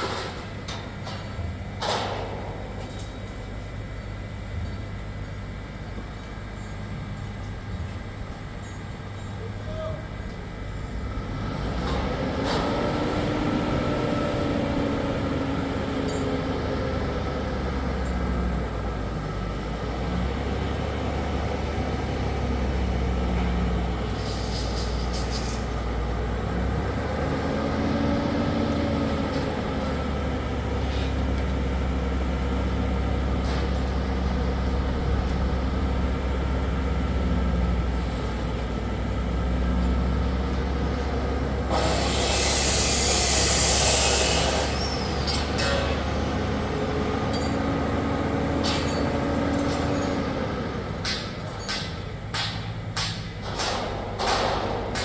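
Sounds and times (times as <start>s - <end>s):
large engine rumbling: 0.0s - 55.0s.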